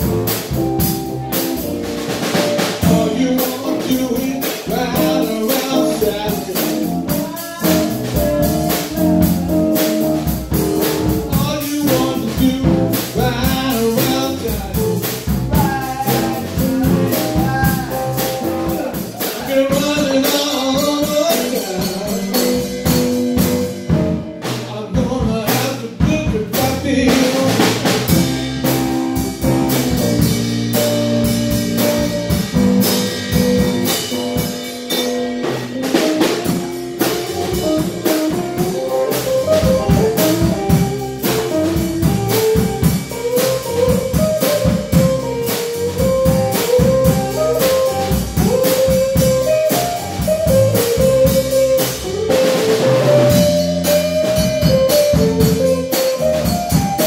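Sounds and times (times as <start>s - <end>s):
electric guitar: 0.0s - 24.8s, 27.5s - 57.0s
drum kit: 0.0s - 57.0s
electric bass: 0.0s - 57.0s.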